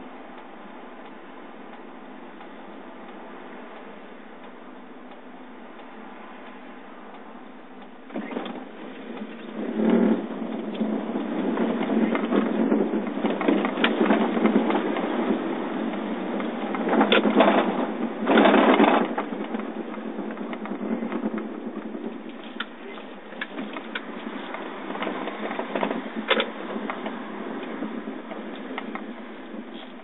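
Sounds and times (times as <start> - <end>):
car interior hum: 0.0 - 30.0
engine and wet-road tyre noise: 0.0 - 30.0.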